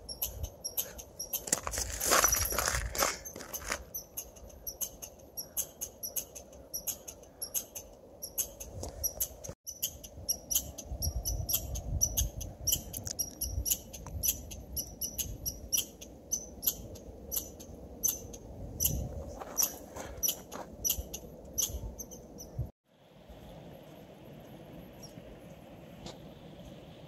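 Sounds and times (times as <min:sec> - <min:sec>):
small animal squeaky chirps: 0:00.0 - 0:22.7.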